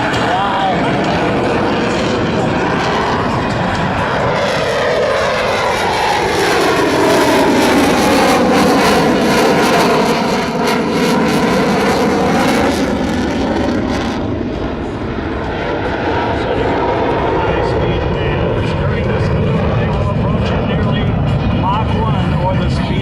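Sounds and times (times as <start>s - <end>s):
fighter jet roaring past: 0.0s - 23.0s.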